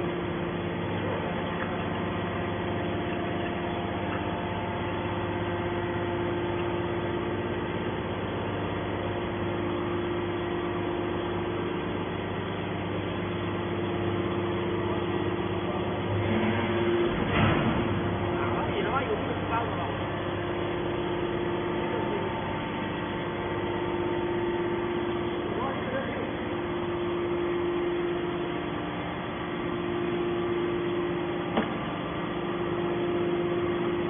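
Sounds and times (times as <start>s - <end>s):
hydraulic motor and pump humming: 0.0s - 34.0s.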